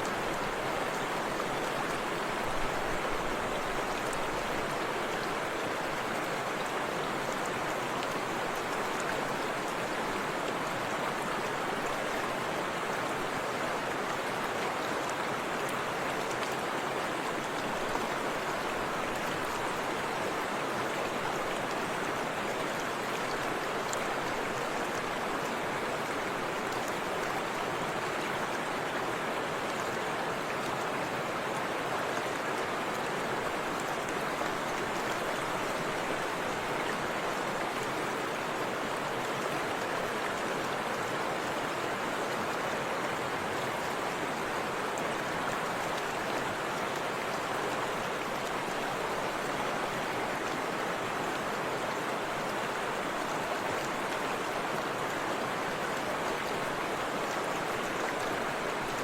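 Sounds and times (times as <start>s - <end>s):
river rushing over waterfall: 0.0s - 59.0s.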